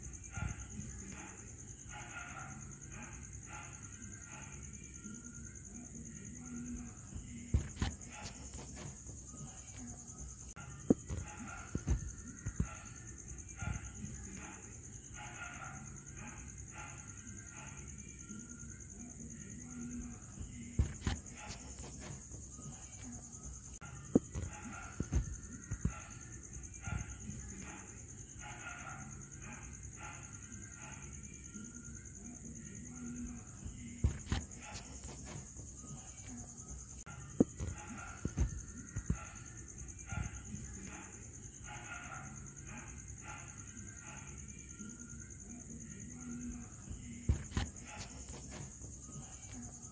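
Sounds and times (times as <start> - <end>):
cricket chirping trill: 0.0 - 49.9.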